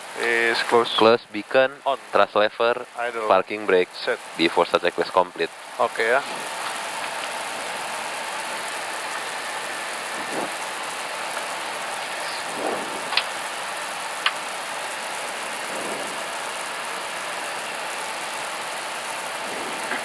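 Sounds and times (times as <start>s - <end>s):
air-conditioning airflow hiss: 0.0s - 20.0s
rain on airframe: 2.9s - 20.0s.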